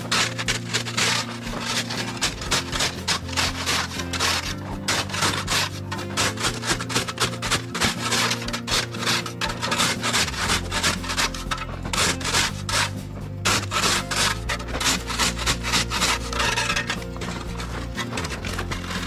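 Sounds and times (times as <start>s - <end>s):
background music with low notes: 0.0s - 19.0s
rapid scraping strokes: 0.0s - 19.0s.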